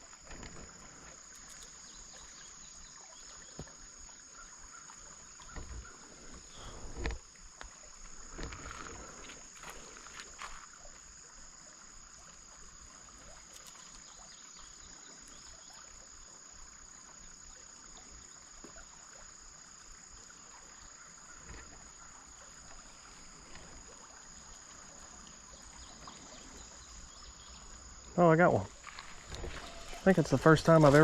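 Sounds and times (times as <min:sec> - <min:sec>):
high-pitched insect chorus: 0:00.0 - 0:31.0
outdoor background noise: 0:00.0 - 0:31.0.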